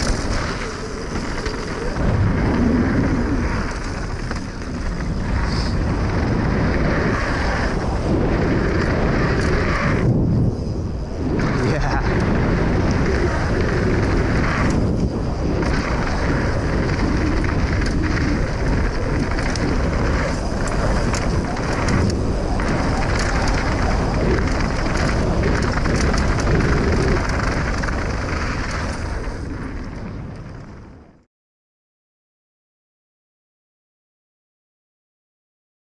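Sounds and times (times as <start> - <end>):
bike rattles and clicks: 0.0 - 31.1
tyre rumble over dirt: 0.0 - 31.1
wind buffeting microphone: 0.0 - 31.2.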